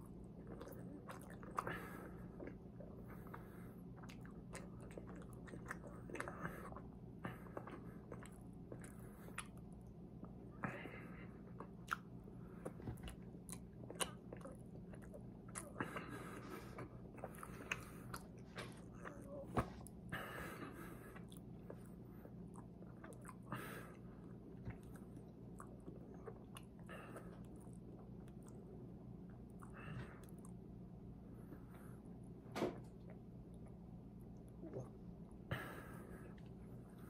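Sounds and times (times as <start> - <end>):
soft wet chewing: 0.0 - 37.0
steady low hum: 0.0 - 37.0.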